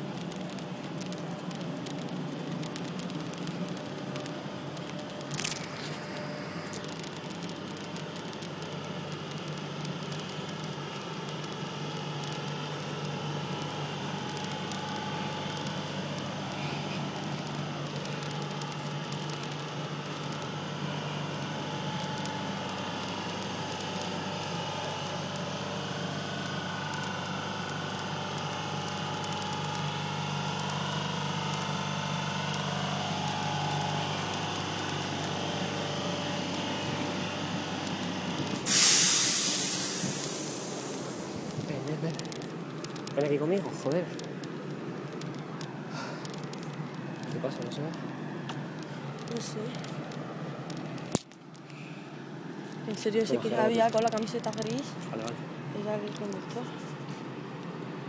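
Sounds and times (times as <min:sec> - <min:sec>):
train wheels rumbling on rails: 0:00.0 - 0:50.2
faint whine: 0:00.0 - 0:58.0.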